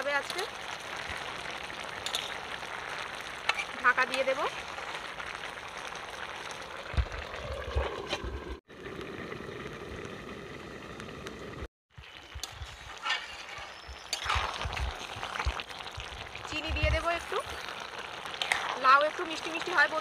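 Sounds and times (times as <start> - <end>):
curry bubbling in a pot: 0.0 - 20.0.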